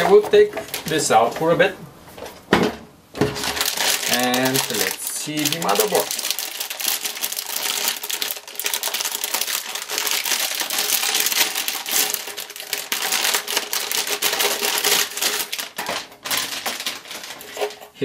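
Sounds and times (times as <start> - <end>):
plastic bag crinkling and crackling: 0.0 - 1.5, 3.2 - 18.0.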